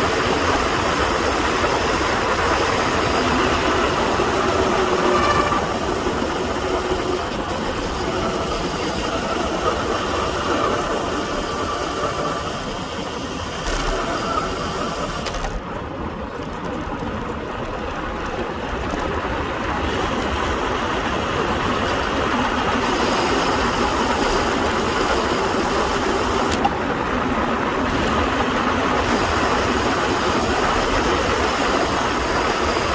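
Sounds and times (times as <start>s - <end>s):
bicycle tyre hum: 0.0s - 32.9s.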